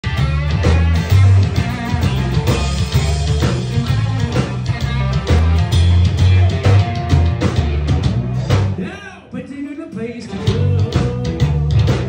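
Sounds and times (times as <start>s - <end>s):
prominent bass line: 0.0s - 8.8s, 10.4s - 12.0s
live band playing: 0.0s - 9.3s, 9.9s - 12.0s.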